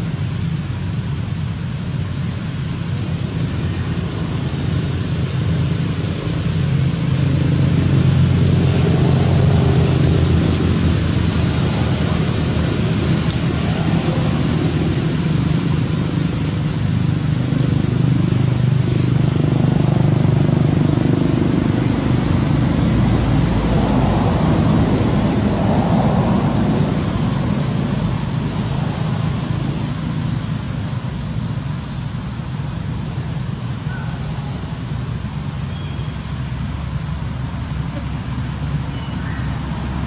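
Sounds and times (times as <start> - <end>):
steady high hiss: 0.0 - 40.0.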